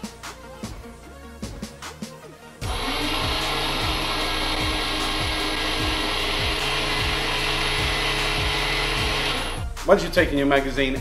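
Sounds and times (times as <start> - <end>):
kick drum beat: 0.6 - 1.8, 2.6 - 10.4
electronic music: 1.5 - 11.0.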